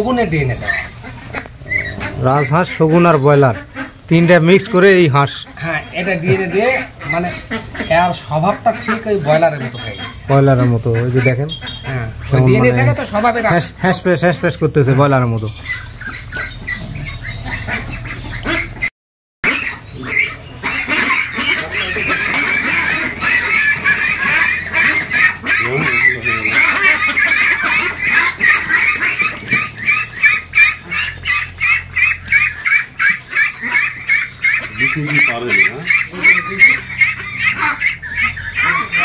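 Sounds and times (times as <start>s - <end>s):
ducks quacking: 0.0s - 39.0s.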